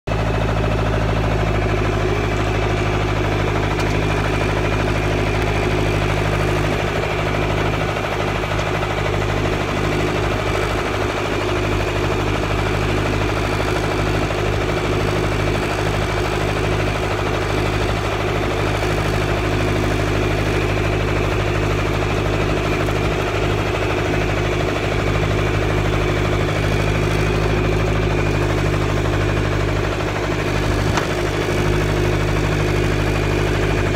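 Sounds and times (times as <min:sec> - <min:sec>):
tractor engine running steadily: 0:00.0 - 0:33.9.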